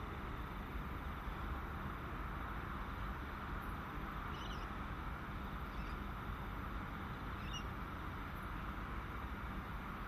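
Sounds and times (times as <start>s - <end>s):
distant jet aircraft noise: 0.0s - 10.0s
low rumble and hiss: 0.0s - 10.0s.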